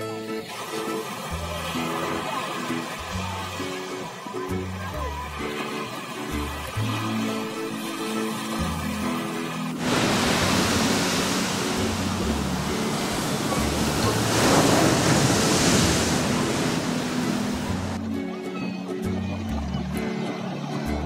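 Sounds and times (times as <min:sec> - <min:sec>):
waves breaking on beach: 0:00.0 - 0:18.6
quiet background music: 0:00.0 - 0:21.0.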